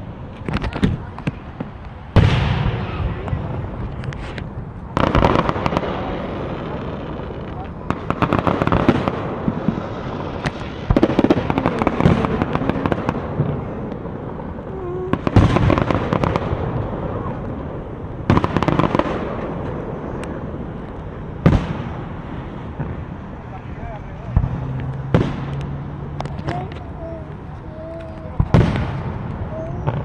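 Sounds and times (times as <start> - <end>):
firework bang: 0.0 - 23.5, 24.3 - 27.4, 28.2 - 30.0
fireworks crackling pops: 0.0 - 30.0
rumble of distant fireworks: 0.0 - 30.0.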